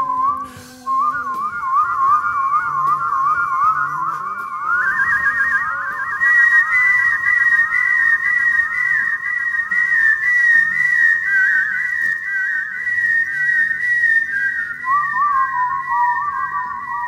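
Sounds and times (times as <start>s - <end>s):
faint low accompaniment: 0.0s - 17.0s
lower whistled line: 0.0s - 17.0s
whistled melody with trills: 0.0s - 17.0s.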